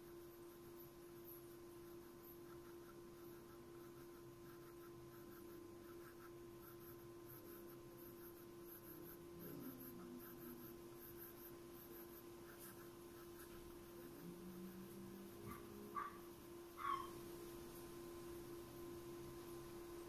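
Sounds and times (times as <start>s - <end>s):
pencil scratching on paper: 0.0s - 17.1s
steady low hum: 0.0s - 20.0s.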